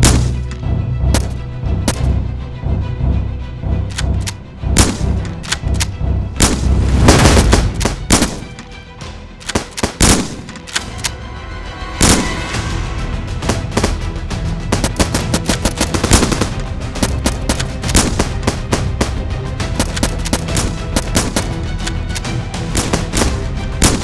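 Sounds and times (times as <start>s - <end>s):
gunshots: 0.0s - 2.2s, 3.9s - 8.8s, 9.4s - 11.2s, 12.0s - 12.7s, 13.4s - 24.0s.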